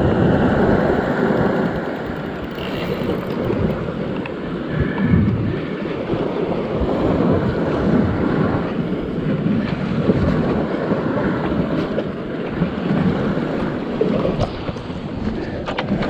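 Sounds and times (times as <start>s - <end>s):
sea waves on rocks: 0.0s - 16.0s
wind buffeting microphone: 0.0s - 16.0s.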